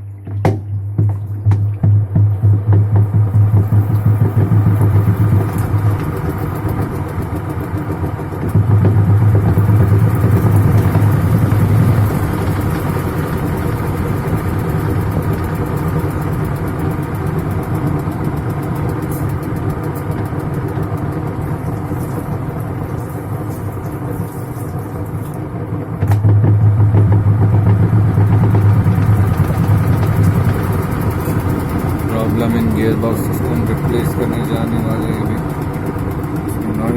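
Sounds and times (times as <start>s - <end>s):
washing machine spinning hum: 0.0s - 36.9s.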